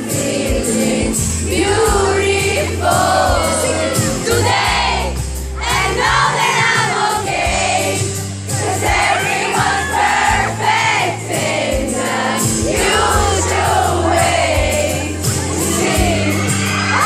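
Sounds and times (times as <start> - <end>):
live band with singer: 0.0 - 17.0.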